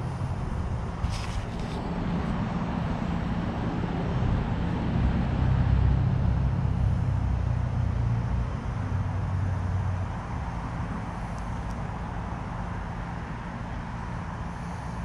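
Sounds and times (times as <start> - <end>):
passing engine hum: 0.0 - 15.0.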